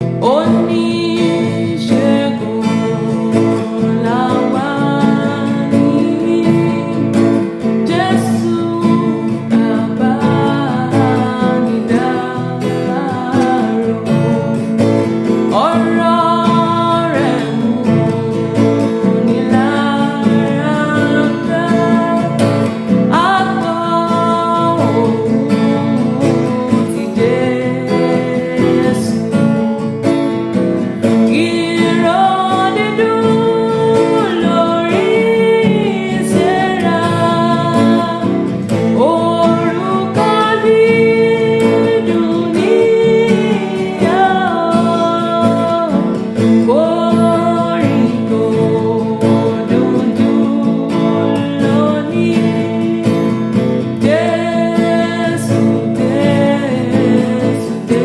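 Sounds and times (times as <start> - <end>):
woman singing a hymn: 0.0 - 29.6, 30.8 - 58.0
strummed guitar: 0.0 - 58.0.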